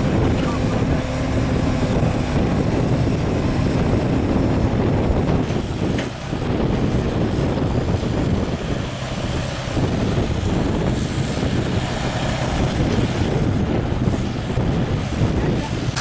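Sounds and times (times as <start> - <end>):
engine humming: 0.0 - 16.0
wind buffeting microphone: 0.0 - 16.0.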